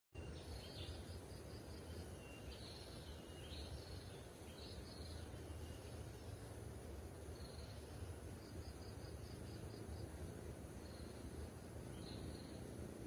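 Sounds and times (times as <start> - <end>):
steady low rumble: 0.4 - 13.0.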